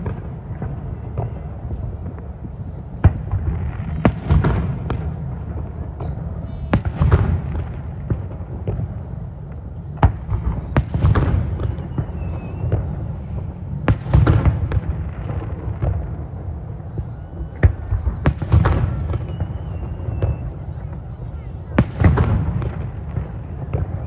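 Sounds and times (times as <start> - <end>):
fireworks bangs: 0.0 - 24.0
rolling rumble and crackle: 0.0 - 24.0.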